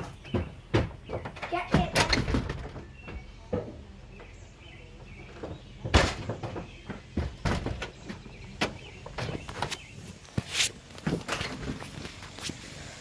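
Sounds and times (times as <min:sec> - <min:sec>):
knocks and clunks: 0:00.0 - 0:04.4, 0:05.0 - 0:12.3.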